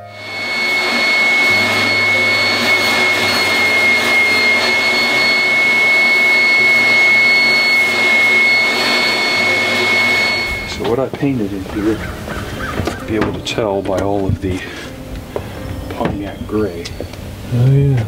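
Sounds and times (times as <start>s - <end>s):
vacuum cleaner running: 0.0s - 17.5s.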